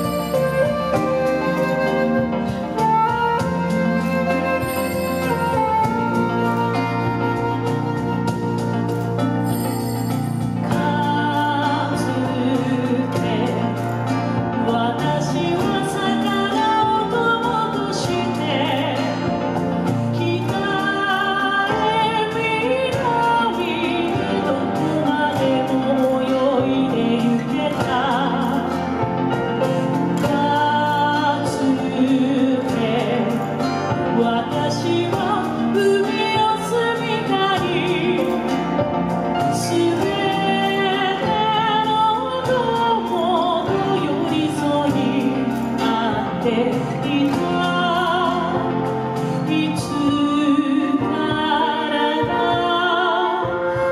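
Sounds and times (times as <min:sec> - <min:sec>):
recorded instrumental accompaniment: 0:00.0 - 0:53.9
woman singing through pa: 0:10.6 - 0:53.9.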